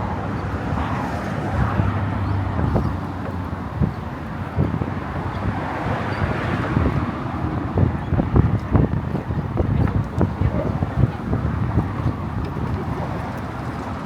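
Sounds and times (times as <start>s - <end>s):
road traffic hum: 0.0s - 14.0s
wind buffeting microphone: 0.0s - 14.0s.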